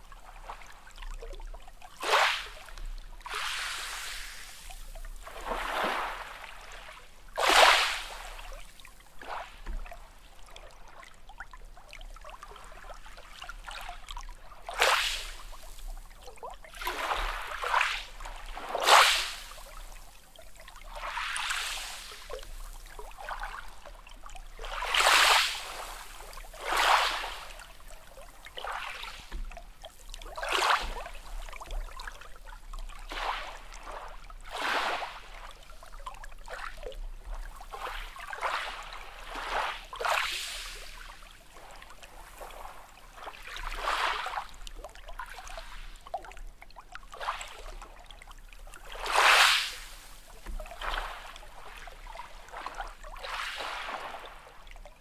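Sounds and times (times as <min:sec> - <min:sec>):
small waves lapping on shore: 0:00.0 - 0:55.0.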